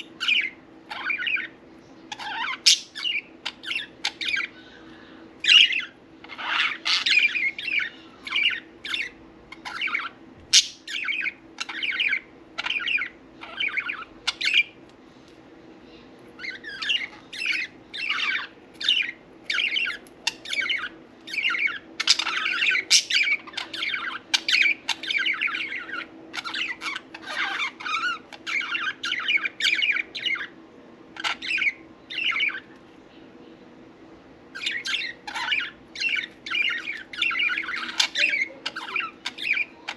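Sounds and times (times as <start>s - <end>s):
budgerigars chirping: 0.0s - 4.6s, 5.4s - 14.8s, 16.4s - 30.6s, 31.2s - 32.7s, 34.5s - 39.9s
faint low hum: 0.0s - 39.9s.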